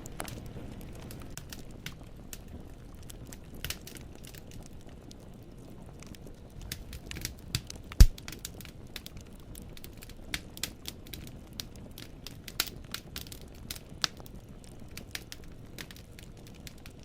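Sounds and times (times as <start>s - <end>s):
firewood popping and snapping: 0.0s - 17.0s
low rumble of flames: 0.0s - 17.0s.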